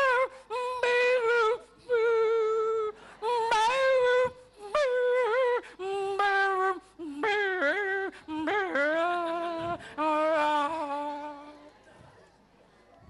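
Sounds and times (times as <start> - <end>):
high voice singing: 0.0 - 11.8.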